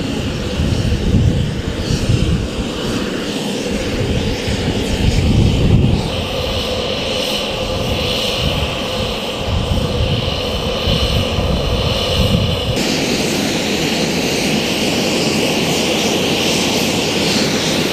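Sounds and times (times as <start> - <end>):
turbine aircraft engine whine: 0.0 - 17.9.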